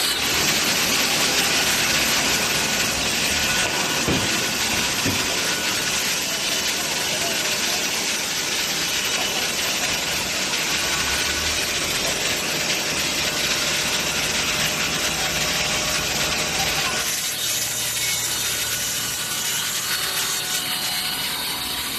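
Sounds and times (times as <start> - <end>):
saw blade grinding stone: 0.0 - 21.9.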